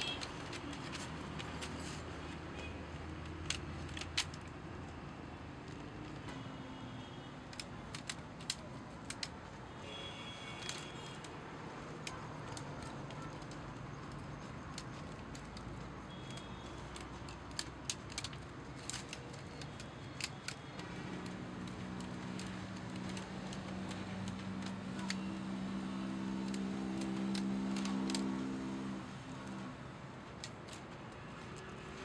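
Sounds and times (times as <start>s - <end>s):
bamboo sticks clicking and rattling: 0.0s - 6.5s, 7.3s - 32.0s.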